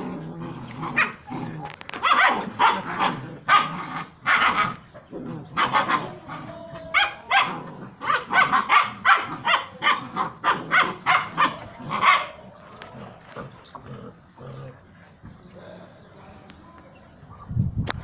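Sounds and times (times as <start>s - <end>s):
puppies barking and yapping: 0.0s - 15.3s.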